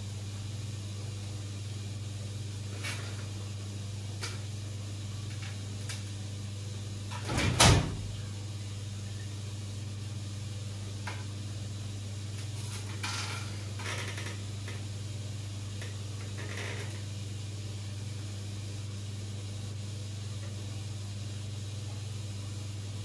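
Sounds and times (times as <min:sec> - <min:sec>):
aquarium pump humming: 0:00.0 - 0:23.0.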